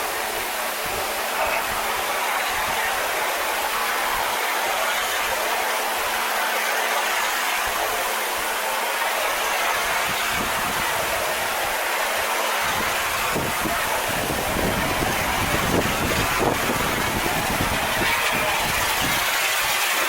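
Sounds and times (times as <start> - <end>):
pressure washer spraying metal: 0.0 - 20.0.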